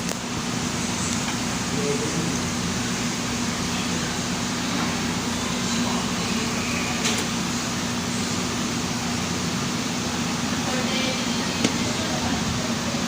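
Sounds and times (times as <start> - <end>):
fan-like hum and hiss: 0.0 - 13.0.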